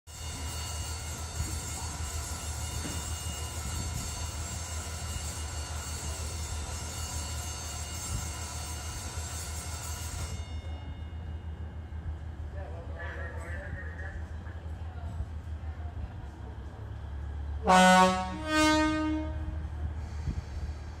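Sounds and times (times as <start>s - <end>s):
diesel train engine hum: 0.1s - 21.0s.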